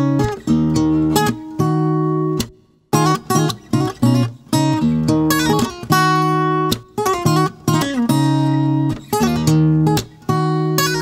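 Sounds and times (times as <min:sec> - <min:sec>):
solo acoustic guitar: 0:00.0 - 0:11.0.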